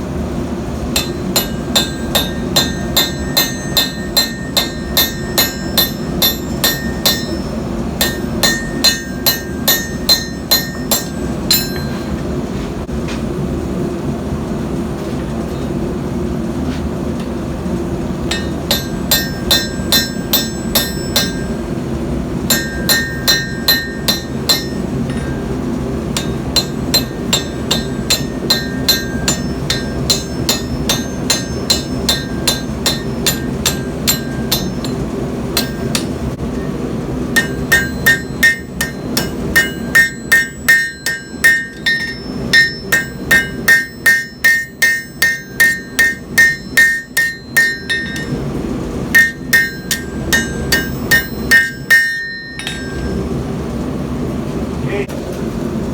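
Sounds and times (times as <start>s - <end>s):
hammer ringing on anvil: 0.9s - 12.4s, 18.3s - 53.6s.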